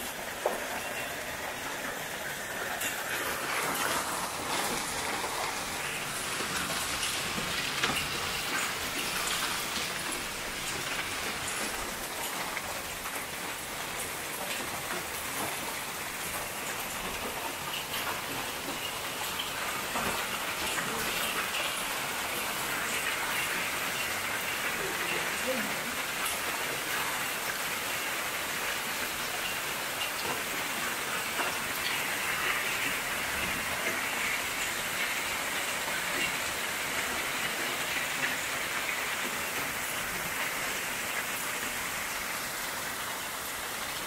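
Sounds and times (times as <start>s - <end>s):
hail and rain falling hard: 0.0s - 44.0s.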